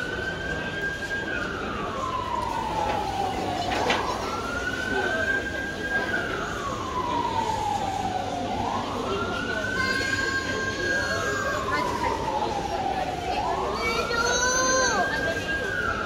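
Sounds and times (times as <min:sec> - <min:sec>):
crowd voices: 0:00.0 - 0:16.0
emergency siren wailing: 0:00.0 - 0:16.0.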